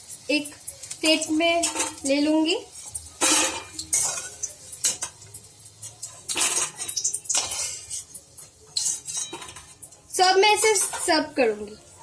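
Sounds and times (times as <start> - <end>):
metal utensil clinking on pan: 0.6 - 11.6.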